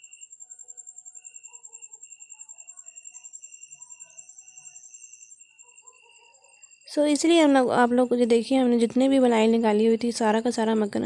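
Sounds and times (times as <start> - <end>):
crickets chirping: 0.0 - 11.0
crickets trilling: 0.0 - 11.0.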